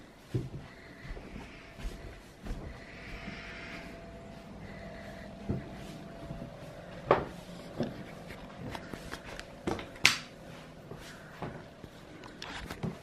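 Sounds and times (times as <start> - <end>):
faint steady hum: 0.0 - 13.0
footsteps: 0.0 - 13.0.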